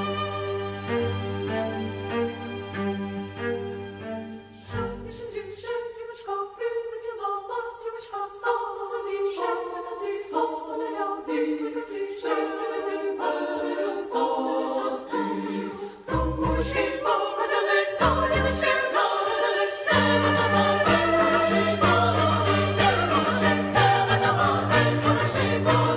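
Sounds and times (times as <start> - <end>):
choral singing: 4.6 - 25.9.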